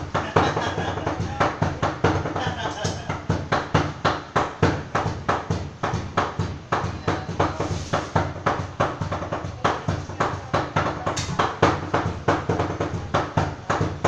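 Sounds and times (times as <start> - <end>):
cleavers chopping on a board: 0.0 - 14.0.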